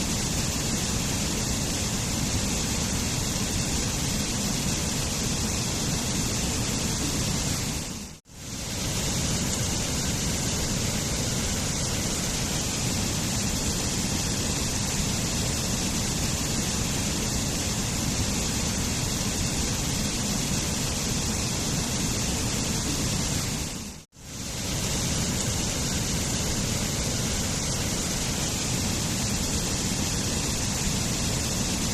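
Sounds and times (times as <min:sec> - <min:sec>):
waterfall: 0:00.0 - 0:31.9.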